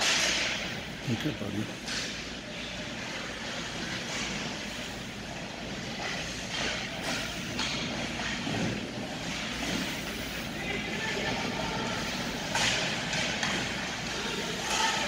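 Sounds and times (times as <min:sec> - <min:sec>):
skates scraping ice: 0:01.7 - 0:15.0.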